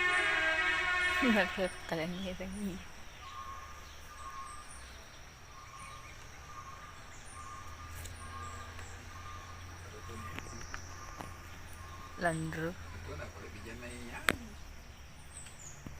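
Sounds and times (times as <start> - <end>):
birds calling: 0.0 - 15.9
faint high chirps: 1.2 - 15.8.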